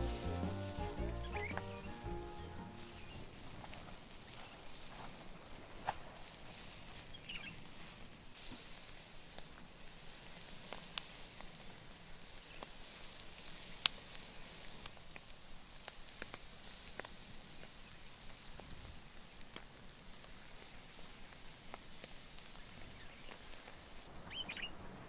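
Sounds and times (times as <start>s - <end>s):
hot coals crackling: 0.0s - 24.1s.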